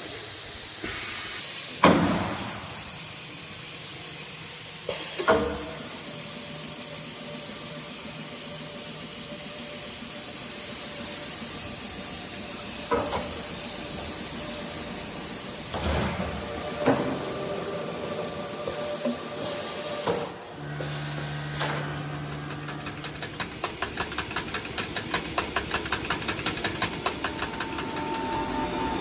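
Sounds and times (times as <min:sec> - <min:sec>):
cnc router hissing: 0:00.1 - 0:29.0.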